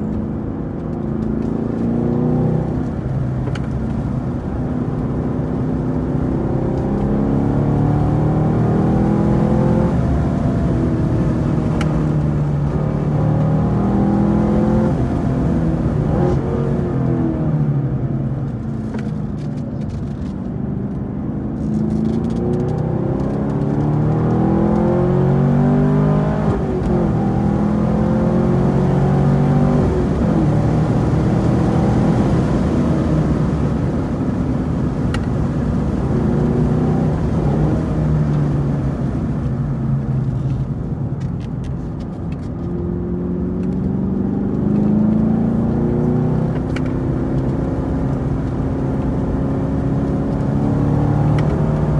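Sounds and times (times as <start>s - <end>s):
car engine accelerating hard: 0.0s - 51.9s.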